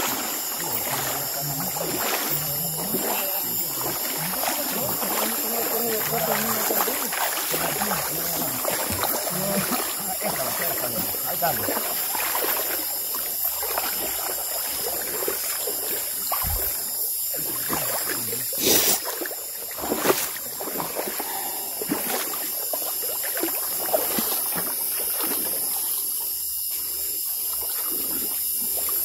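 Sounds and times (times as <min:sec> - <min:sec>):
night insects buzzing: 0:00.0 - 0:29.0
water sloshing and splashing: 0:00.0 - 0:29.0.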